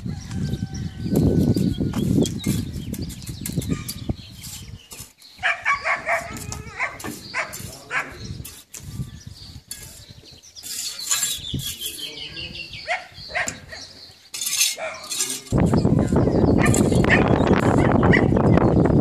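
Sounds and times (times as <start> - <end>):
wind buffeting microphone: 0.0 - 13.8, 14.8 - 19.0.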